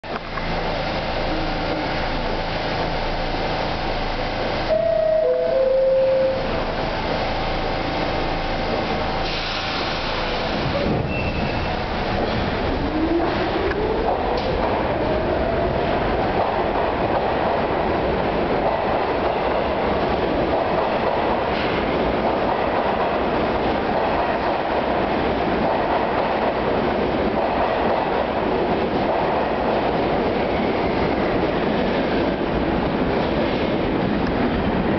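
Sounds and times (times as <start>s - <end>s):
subway train rumbling on rails: 0.0s - 34.9s.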